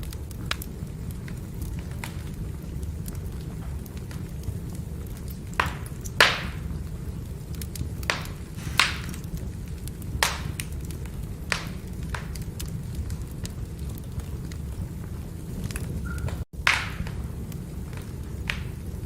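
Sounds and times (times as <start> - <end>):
burning logs crackling and popping: 0.0 - 19.0
fire rumbling: 0.0 - 19.0.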